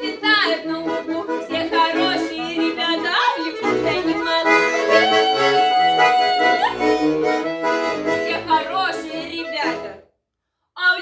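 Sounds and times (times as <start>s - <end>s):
accordion playing folk tune: 0.0s - 10.1s.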